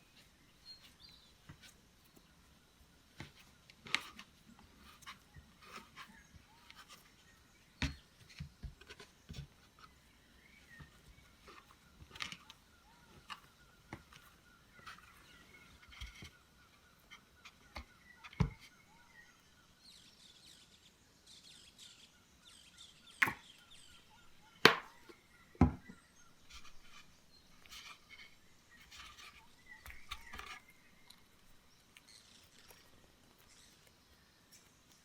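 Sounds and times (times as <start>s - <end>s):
faint chirping: 0.0s - 35.0s.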